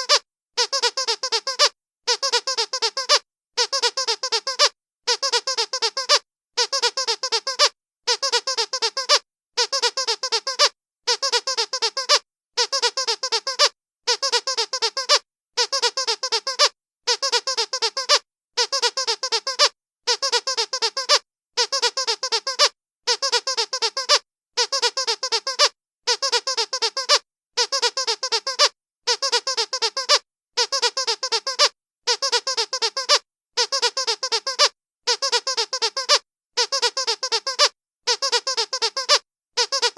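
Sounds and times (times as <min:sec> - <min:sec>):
squeaky toy squeaking: 0:00.0 - 0:39.9.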